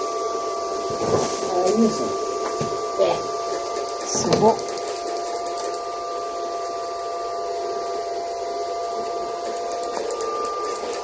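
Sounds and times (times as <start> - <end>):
welding machine whir and whine: 0.0 - 11.0.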